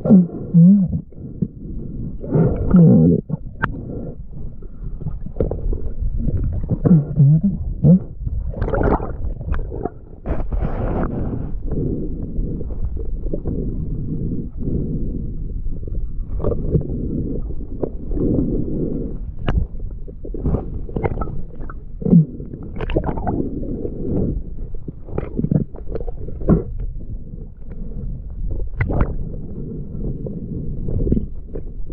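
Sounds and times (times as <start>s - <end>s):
underwater churning rumble: 0.0s - 31.9s
water gurgles: 0.0s - 31.9s.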